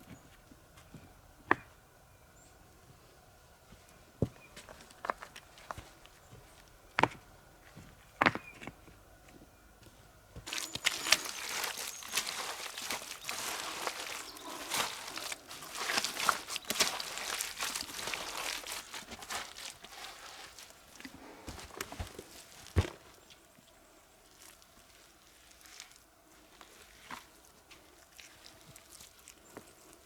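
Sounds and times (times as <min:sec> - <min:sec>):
crunching and rustling with snaps: 0:03.7 - 0:30.0.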